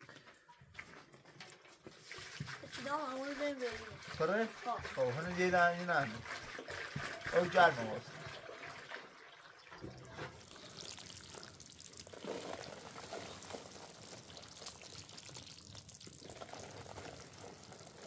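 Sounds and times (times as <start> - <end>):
water poured from jerrycan: 0.7 - 18.0
powder fizzing into water: 1.7 - 18.0.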